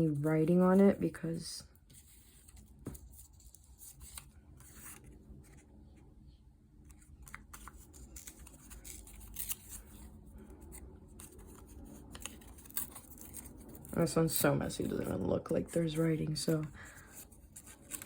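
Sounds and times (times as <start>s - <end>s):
paper rustling and crinkling: 1.8s - 5.7s, 6.8s - 18.0s.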